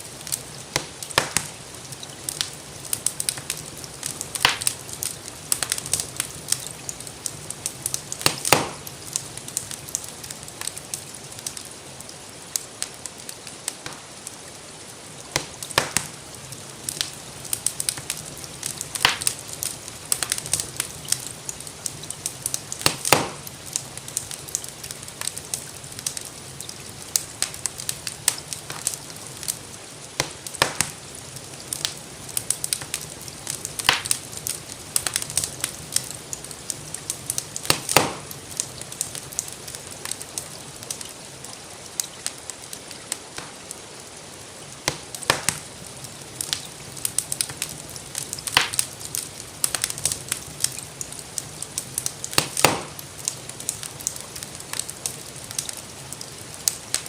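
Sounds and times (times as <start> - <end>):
fire popping sharply: 0.0 - 11.6, 13.7 - 14.2, 15.3 - 41.2, 44.8 - 55.8
rainfall hiss: 0.0 - 57.0
wood fire crackling: 0.0 - 57.0.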